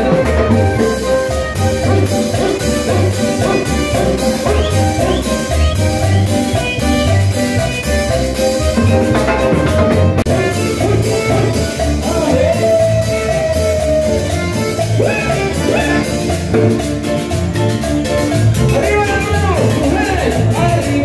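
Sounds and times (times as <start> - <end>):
latin dance band playing: 0.0 - 21.0
timbales and cymbals beat: 0.0 - 21.0.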